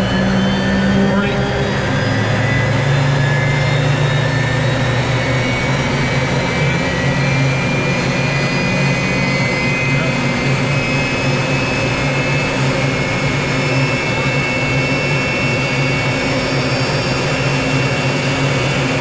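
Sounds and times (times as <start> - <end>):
high jet whine rising in pitch: 0.0 - 19.0
jet engine running at low throttle: 0.0 - 19.0.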